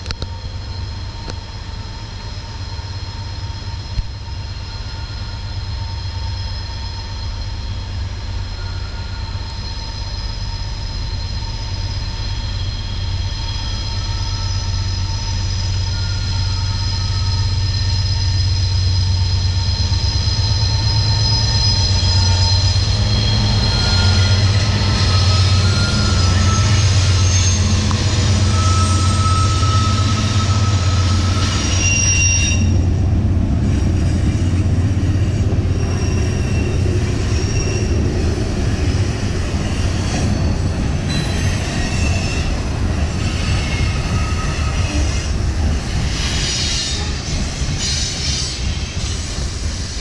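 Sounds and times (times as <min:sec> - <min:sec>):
diesel locomotive engine drone: 0:00.0 - 0:50.0
train wheels squealing: 0:00.0 - 0:50.0.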